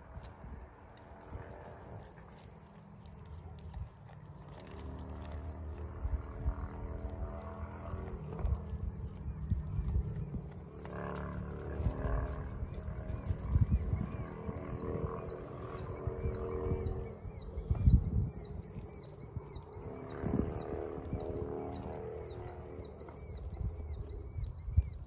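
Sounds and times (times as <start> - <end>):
sheep tearing and chewing grass: 0.0 - 17.2, 18.9 - 25.0
dry stalks rustling: 0.0 - 25.0.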